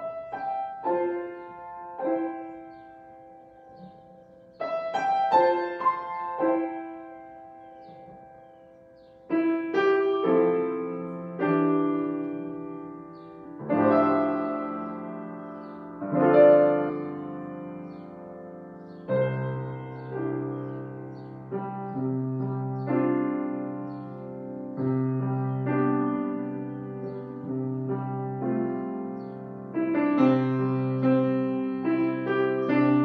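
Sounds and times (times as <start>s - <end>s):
solo grand piano chords: 0.0s - 33.0s.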